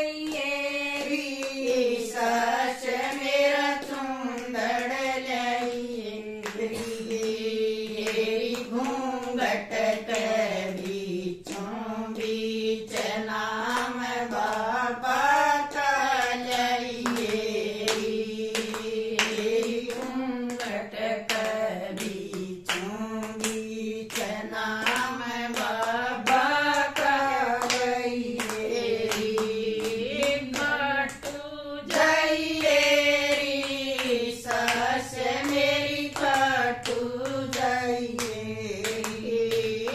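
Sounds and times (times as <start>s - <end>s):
hand claps: 0.0s - 39.9s
women singing in unison: 0.0s - 39.9s.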